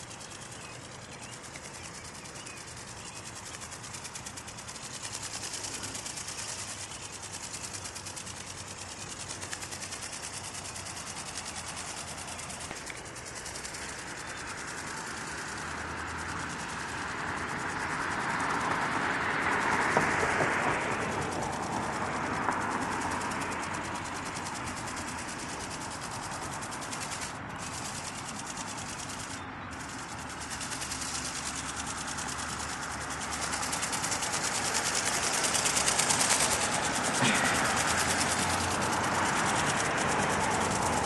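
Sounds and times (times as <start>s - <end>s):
ornithopter rattling whirr: 0.0s - 41.0s.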